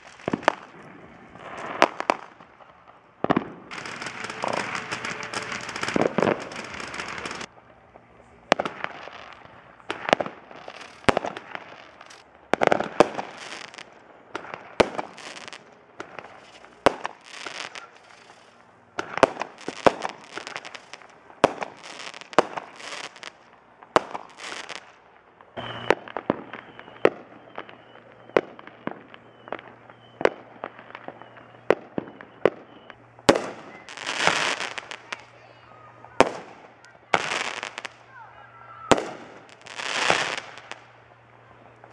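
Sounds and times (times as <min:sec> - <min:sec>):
fireworks bangs: 0:00.0 - 0:41.9
fireworks crackling: 0:00.0 - 0:41.9.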